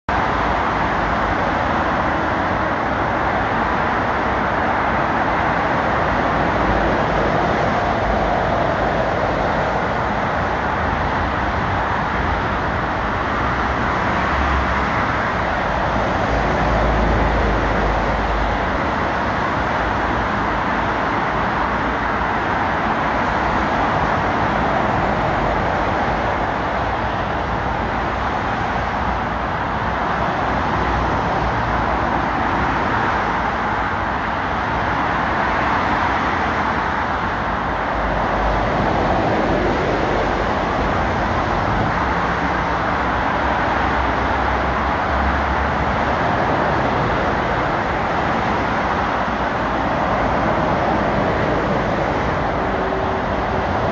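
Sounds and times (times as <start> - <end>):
traffic tyre roar and engines: 0.0 - 53.9.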